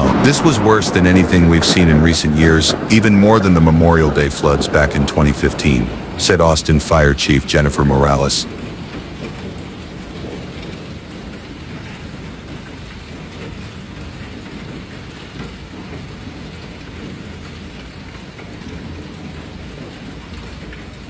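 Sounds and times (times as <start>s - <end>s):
heavy rain falling: 0.0s - 21.0s
low storm rumble: 0.0s - 21.0s.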